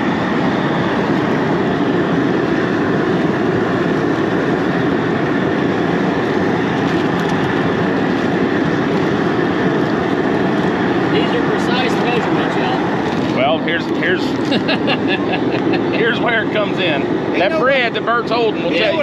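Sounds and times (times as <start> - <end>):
propane burner rushing: 0.0 - 19.0.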